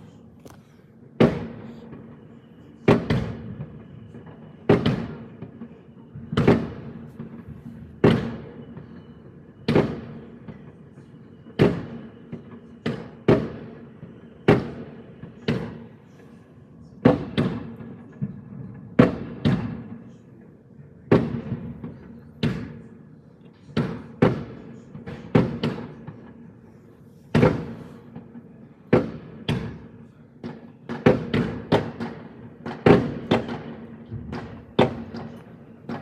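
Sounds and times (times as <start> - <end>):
fireworks bangs with echo: 1.1 - 20.3, 21.1 - 36.0.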